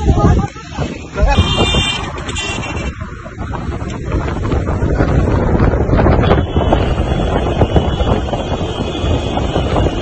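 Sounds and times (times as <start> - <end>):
vehicle running noise: 0.0 - 10.0
wind buffeting microphone: 0.0 - 10.0.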